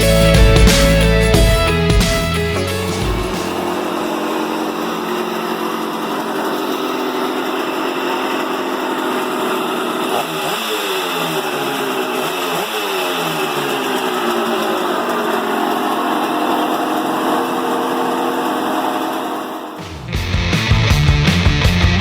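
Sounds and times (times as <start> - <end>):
engine running and revving: 0.0 - 22.0.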